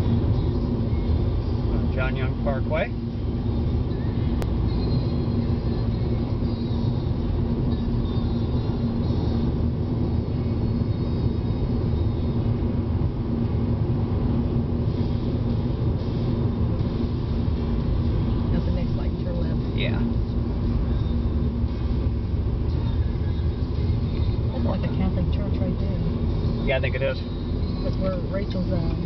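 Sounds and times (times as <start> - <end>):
car interior road rumble: 0.0 - 29.0.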